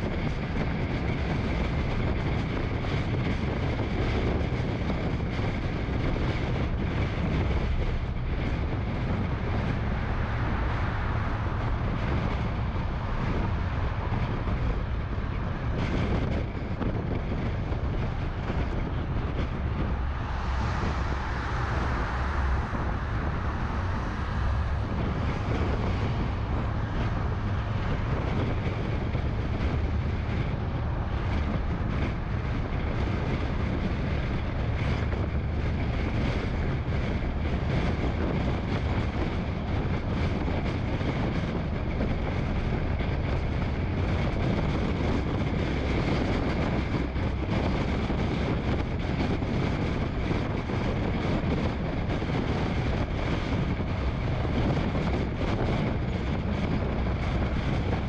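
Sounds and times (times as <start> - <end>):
rushing air: 0.0 - 58.0.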